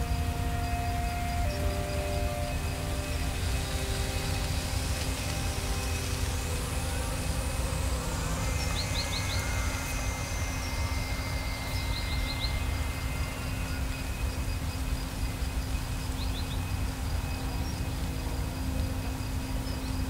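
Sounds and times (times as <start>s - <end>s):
low wind rumble: 0.0s - 20.0s.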